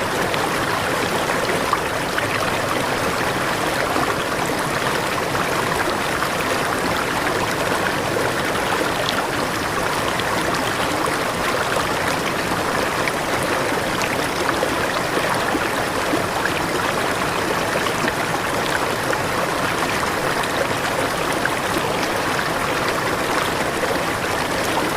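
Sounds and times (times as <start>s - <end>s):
waterfall rushing and splashing: 0.0s - 24.9s.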